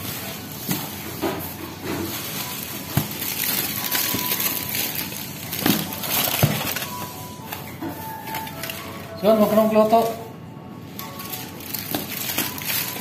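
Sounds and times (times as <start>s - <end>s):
plastic bags crinkling: 0.0s - 10.2s, 10.9s - 13.0s.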